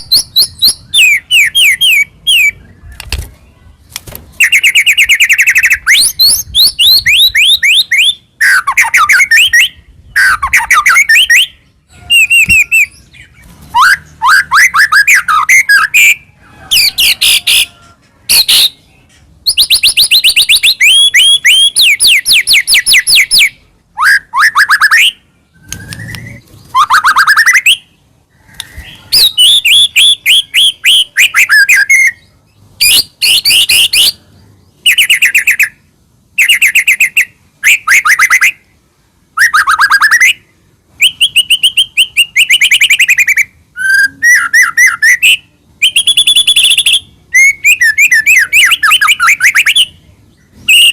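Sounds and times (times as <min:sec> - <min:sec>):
songbird whistling and trilling: 0:00.0 - 0:03.6, 0:04.4 - 0:34.2, 0:34.8 - 0:35.8, 0:36.4 - 0:38.7, 0:39.3 - 0:50.9.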